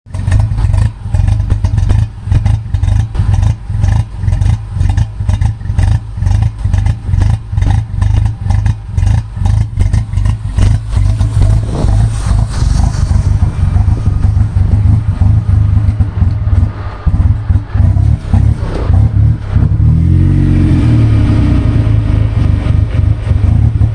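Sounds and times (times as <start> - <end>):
engine running unevenly: 0.1 - 23.9.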